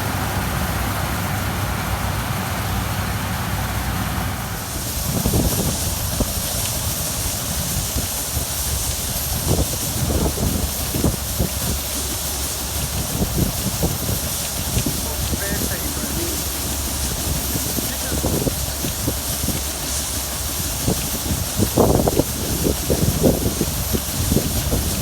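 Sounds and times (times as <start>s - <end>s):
combine harvester engine drone: 0.0s - 25.0s
low thumps and rumbles: 0.0s - 25.0s
strong high hiss: 0.0s - 25.0s.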